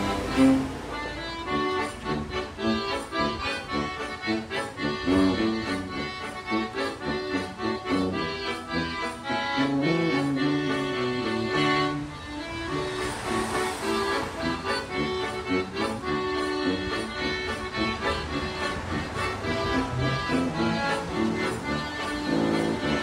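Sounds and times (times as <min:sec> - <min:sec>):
oompah band playing: 0:00.0 - 0:23.0.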